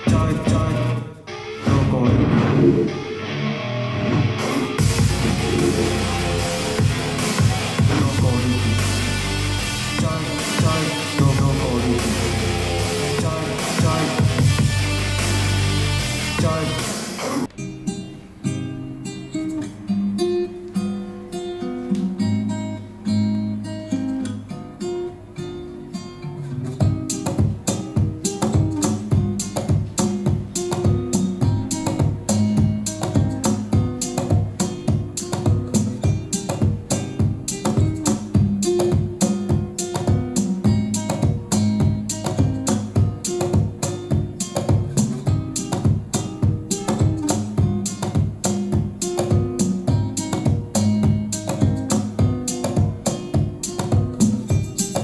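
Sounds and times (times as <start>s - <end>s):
acoustic guitar picked notes: 0.0s - 55.0s
rhythmic guitar strumming: 0.0s - 55.0s.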